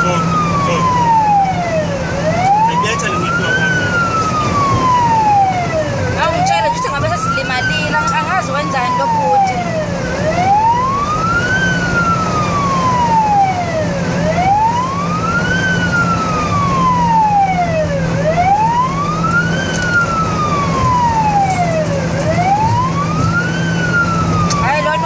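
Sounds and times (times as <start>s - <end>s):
ambulance siren wailing: 0.0s - 25.0s
engine and road hum: 0.0s - 25.0s.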